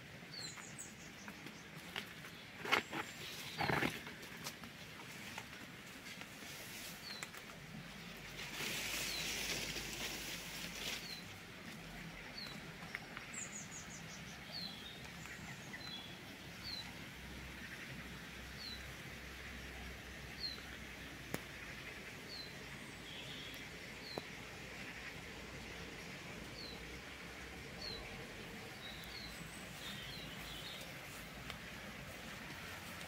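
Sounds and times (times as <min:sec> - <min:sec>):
leaves rustling: 0:01.7 - 0:18.8, 0:20.4 - 0:33.0.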